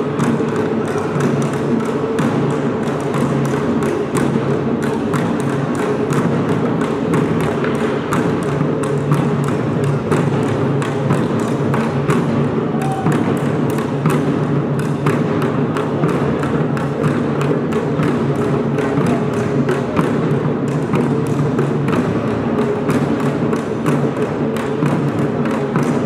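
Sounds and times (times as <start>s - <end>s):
folk percussion fast beat: 0.0s - 26.0s.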